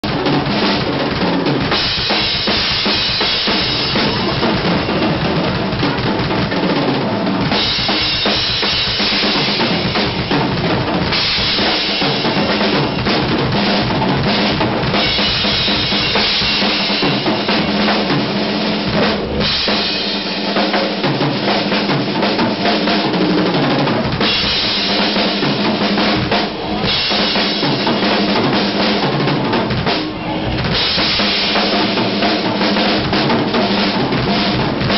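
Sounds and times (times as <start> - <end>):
rock drum solo: 0.0 - 34.9.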